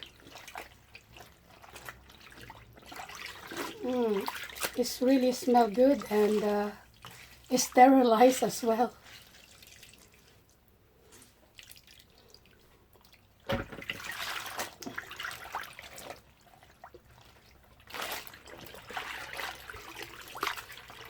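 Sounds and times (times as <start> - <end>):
water splashing: 0.0 - 10.6, 11.5 - 21.0
water dripping: 0.0 - 10.8, 11.4 - 21.0.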